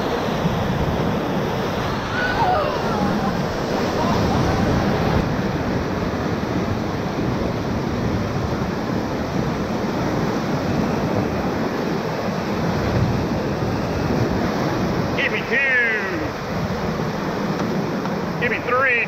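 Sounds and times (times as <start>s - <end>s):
whitewater rapids rushing: 0.0s - 19.0s.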